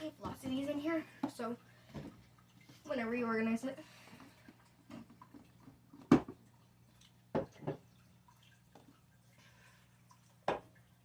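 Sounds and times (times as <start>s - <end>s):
fridge hum: 0.0s - 11.0s.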